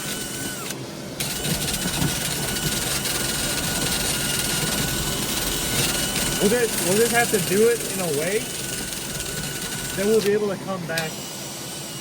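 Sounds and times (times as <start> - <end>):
machine high whine: 0.0 - 12.0.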